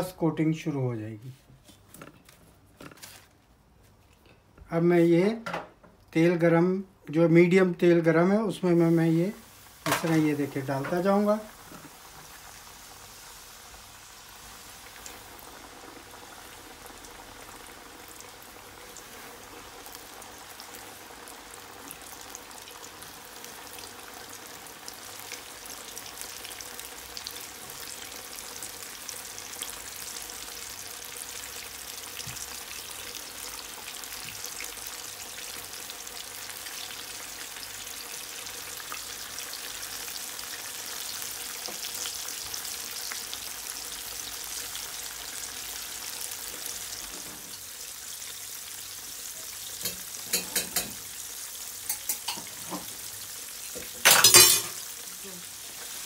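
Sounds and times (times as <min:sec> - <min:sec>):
chicken frying in oil: 0:07.8 - 0:56.0.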